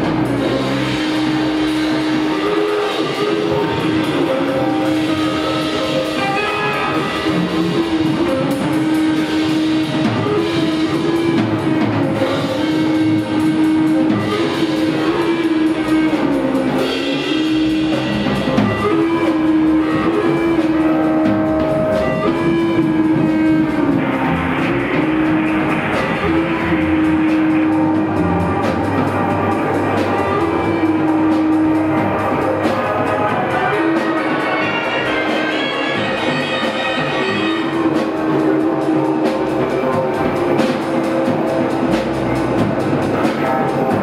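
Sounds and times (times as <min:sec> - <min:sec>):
drum kit: 0:00.0 - 0:44.0
electric guitars: 0:00.0 - 0:44.0.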